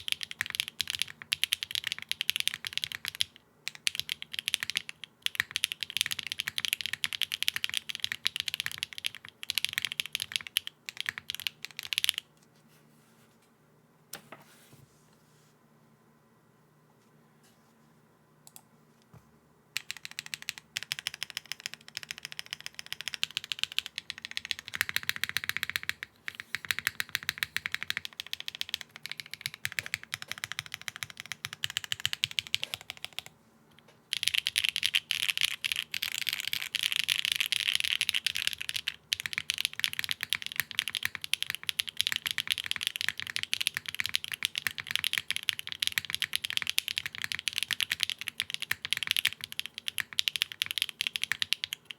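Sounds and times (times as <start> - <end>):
clacky keyboard typing: 0.0 - 12.3, 19.8 - 33.3, 34.1 - 51.9.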